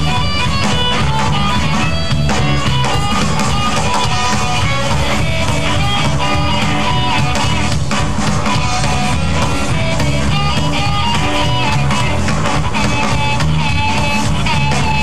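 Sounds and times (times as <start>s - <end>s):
blues-rock band playing: 0.0s - 15.0s
harmonica sustained notes: 0.0s - 15.0s.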